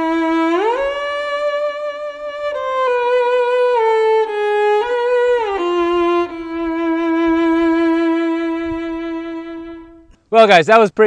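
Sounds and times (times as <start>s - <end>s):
slow solo violin: 0.0s - 10.3s.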